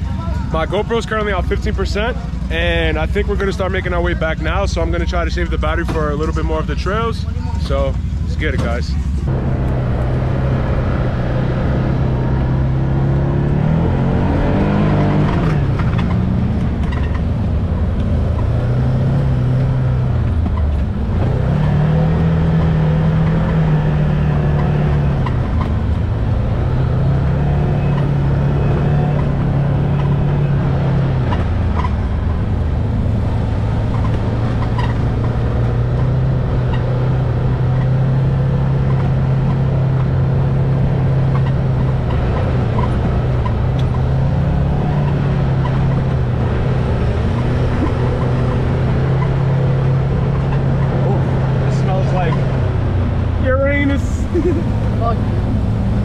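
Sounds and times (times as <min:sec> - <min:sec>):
rumble of tires on dirt trail: 0:00.0 - 0:56.0
utility vehicle engine revving: 0:00.0 - 0:56.0.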